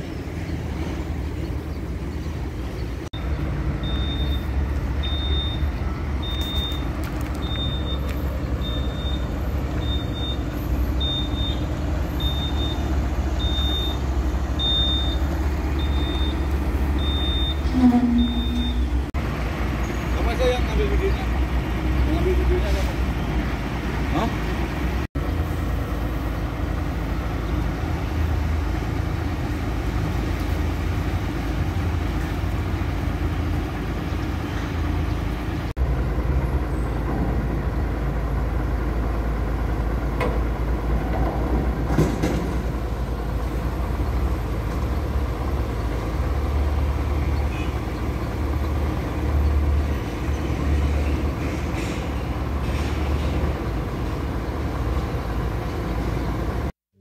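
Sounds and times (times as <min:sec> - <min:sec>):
diesel truck engine running: 0:00.0 - 0:56.8.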